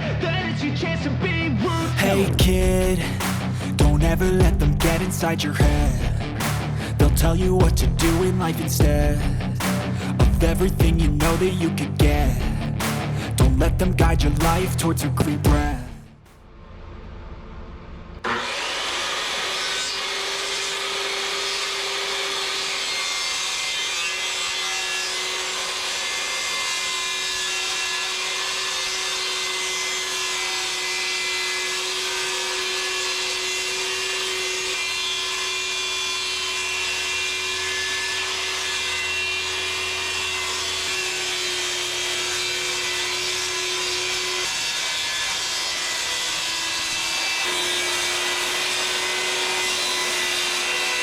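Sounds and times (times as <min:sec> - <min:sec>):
power tool cutting: 0:01.6 - 0:13.6, 0:18.2 - 0:51.0.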